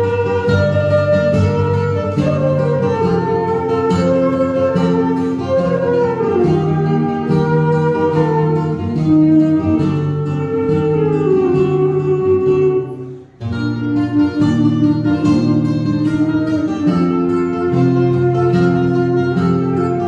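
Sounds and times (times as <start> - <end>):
flamenco guitar: 0.0 - 20.0
flute melody: 0.0 - 20.0.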